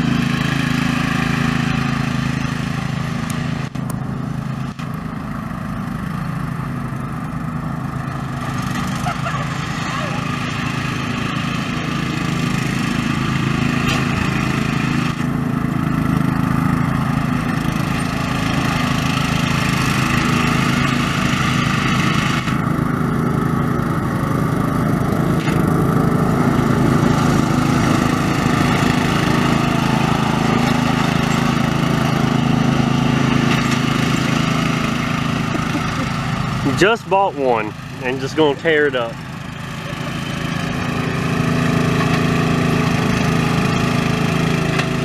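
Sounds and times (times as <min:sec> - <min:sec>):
lawn mower engine drone: 0:00.0 - 0:45.0.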